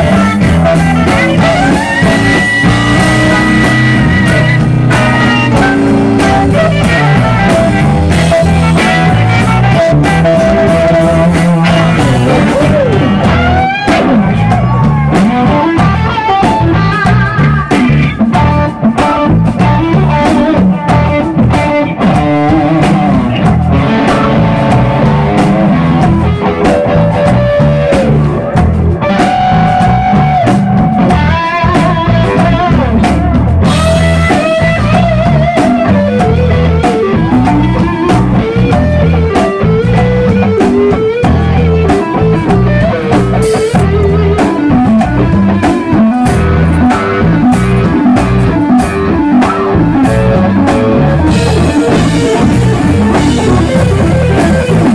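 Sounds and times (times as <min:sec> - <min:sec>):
bass guitar: 0:00.0 - 0:54.9
drum kit: 0:00.0 - 0:54.9
electric guitar lead: 0:00.0 - 0:54.9.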